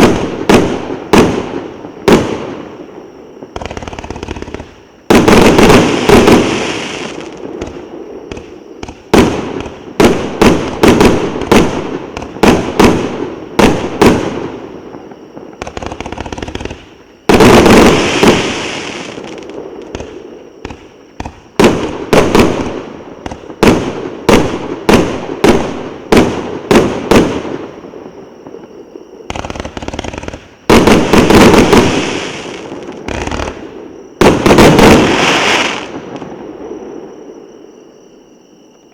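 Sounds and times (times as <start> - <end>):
fireworks shots and crackling bursts: 0.0 - 37.4.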